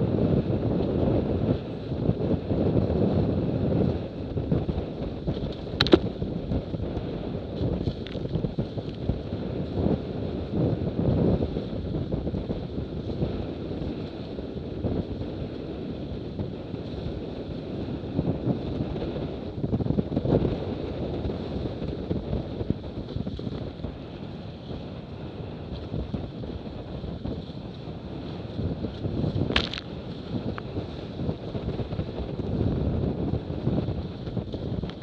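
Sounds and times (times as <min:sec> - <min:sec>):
water rushing along hull: 0:00.0 - 0:35.0
wind buffeting microphone: 0:00.0 - 0:35.0.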